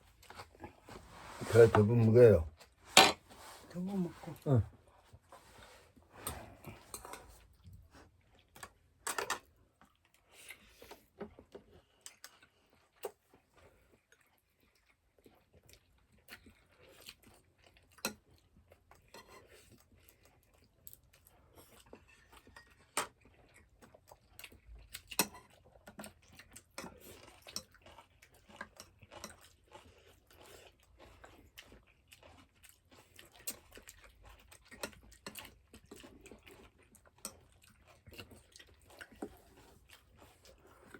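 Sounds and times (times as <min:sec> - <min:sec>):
person chewing food: 0:00.0 - 0:01.3, 0:04.3 - 0:40.9.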